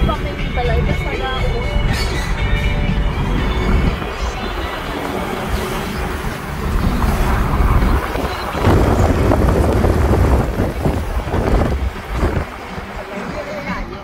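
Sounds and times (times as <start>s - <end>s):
road and engine rumble: 0.0s - 14.0s
wind buffeting microphone: 0.0s - 14.0s.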